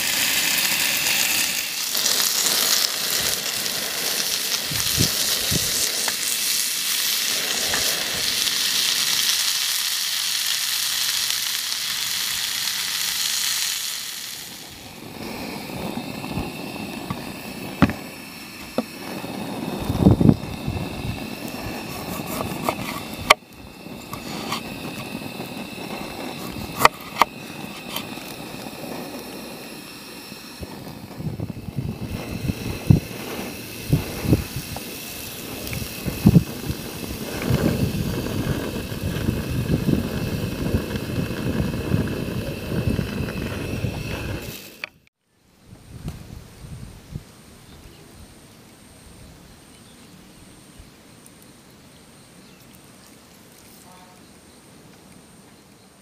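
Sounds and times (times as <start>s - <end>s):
irregular crackling: 0.0s - 45.0s
outdoor noise: 0.0s - 56.0s
steady low hiss: 0.0s - 56.0s.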